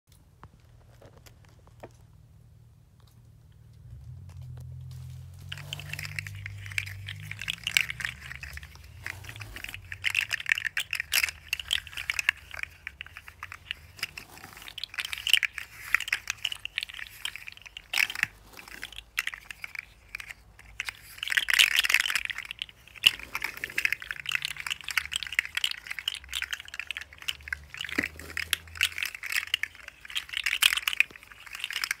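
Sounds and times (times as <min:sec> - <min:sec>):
plastic toys clacking and rattling: 0:04.4 - 0:32.0.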